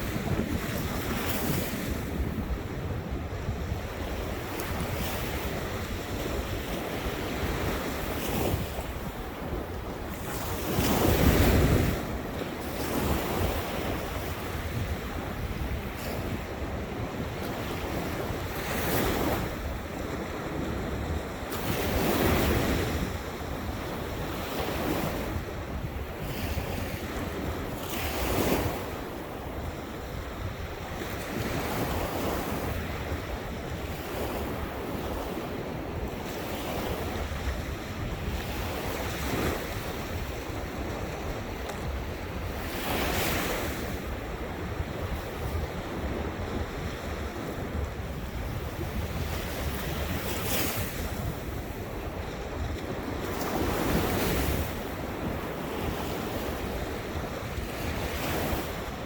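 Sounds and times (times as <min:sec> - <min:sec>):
waves breaking on shore: 0:00.0 - 0:59.0
wind buffeting microphone: 0:00.0 - 0:59.0.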